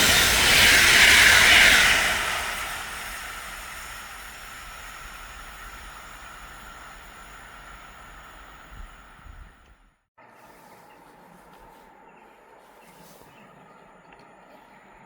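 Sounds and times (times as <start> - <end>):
train rumble and hiss: 0.0 - 15.0.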